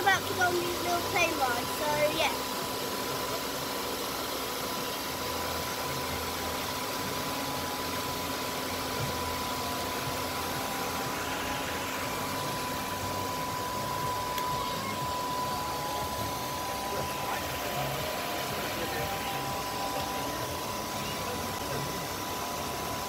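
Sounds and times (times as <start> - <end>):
low hum: 0.0 - 23.0
steady hiss: 0.0 - 23.0
thin high tone: 0.0 - 23.0.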